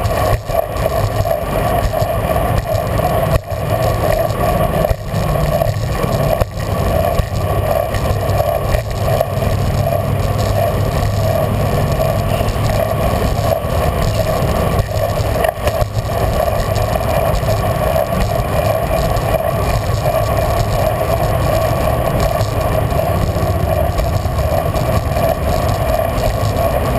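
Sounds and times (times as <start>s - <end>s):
bicycle road noise: 0.0s - 26.9s
freeway traffic: 0.0s - 26.9s
wind rush: 0.0s - 26.9s.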